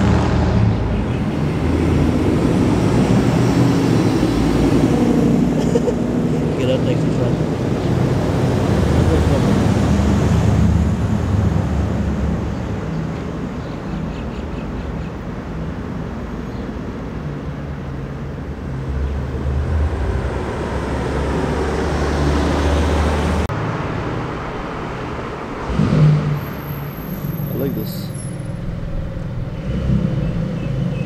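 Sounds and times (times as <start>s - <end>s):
car engines and tyres rumbling: 0.0s - 31.0s.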